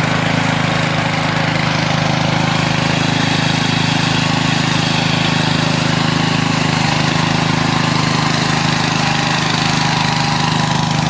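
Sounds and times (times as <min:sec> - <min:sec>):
weed mower engine running: 0:00.0 - 0:11.0.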